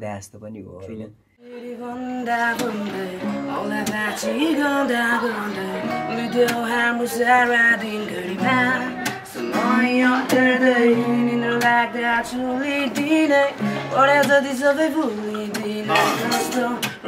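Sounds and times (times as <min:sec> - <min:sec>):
man singing: 0:01.4 - 0:17.0
acoustic guitar strumming: 0:01.6 - 0:17.0.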